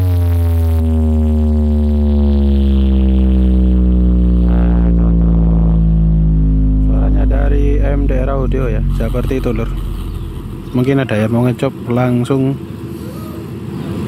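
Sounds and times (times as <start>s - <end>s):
deep falling bass tone: 0.0s - 12.6s.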